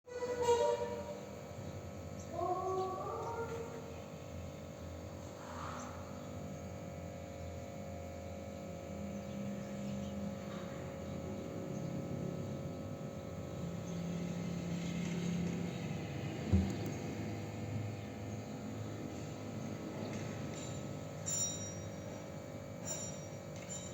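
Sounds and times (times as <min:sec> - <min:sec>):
steady background hum: 0:00.0 - 0:23.9.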